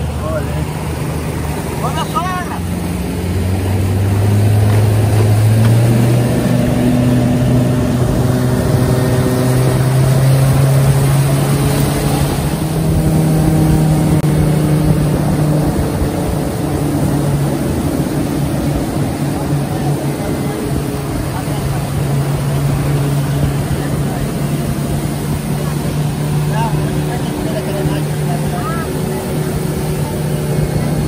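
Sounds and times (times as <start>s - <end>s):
speedboat engine running: 0.0s - 31.0s
water rushing off hull: 0.0s - 31.0s.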